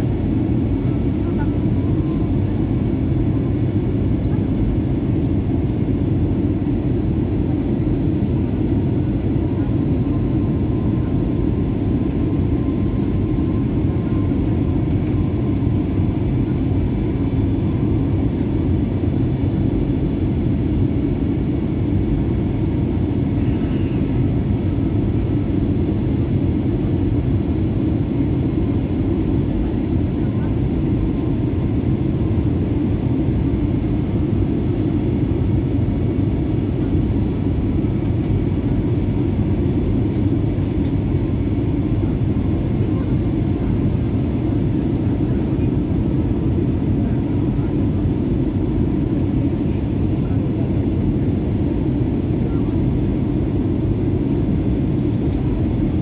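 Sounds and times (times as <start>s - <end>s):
airliner engine rumble in cabin: 0.0s - 56.0s.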